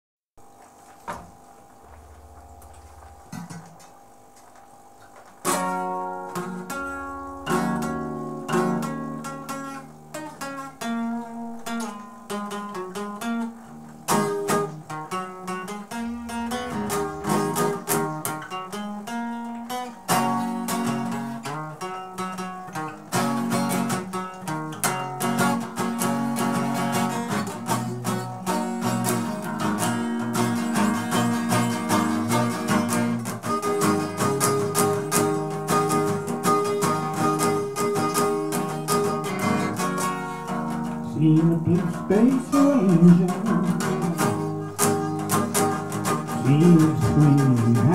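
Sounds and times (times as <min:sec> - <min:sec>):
acoustic guitar chords: 0:00.4 - 0:47.9.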